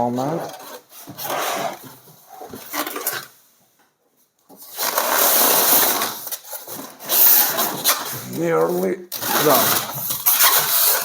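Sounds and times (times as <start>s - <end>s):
cardboard box scraping: 0.1s - 3.3s, 4.6s - 11.0s.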